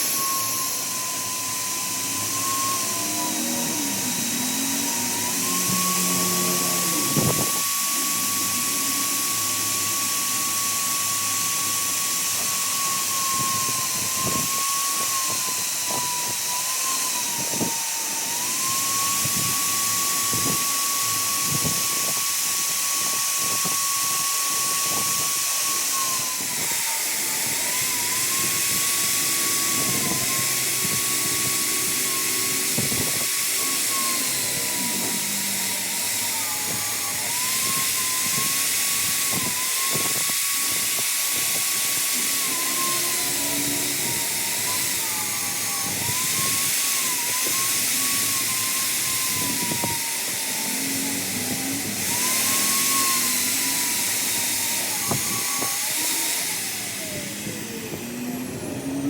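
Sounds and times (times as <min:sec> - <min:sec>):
power tool motor whining: 0:00.0 - 0:59.0.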